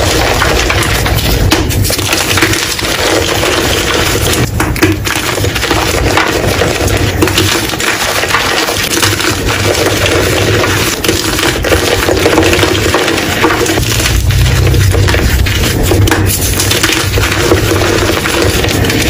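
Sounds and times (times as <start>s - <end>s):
chalk blocks crunching: 0.0s - 19.0s.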